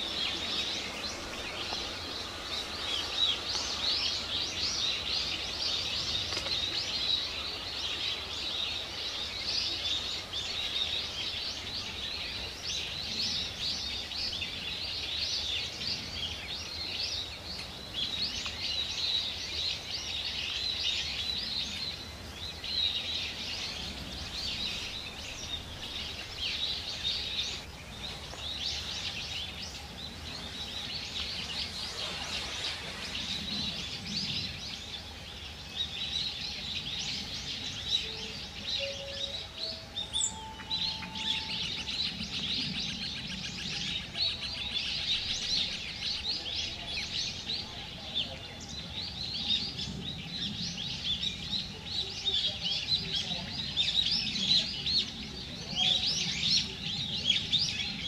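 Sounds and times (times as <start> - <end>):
faint background hiss: 0.0 - 58.0
flock of birds chirping: 0.0 - 58.0.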